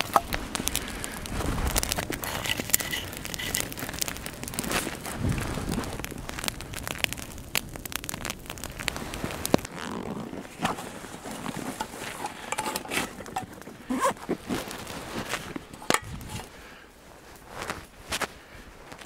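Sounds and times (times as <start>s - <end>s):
rustling of handling: 0.0s - 6.7s, 8.8s - 19.0s
campfire crackling and popping: 0.0s - 19.0s.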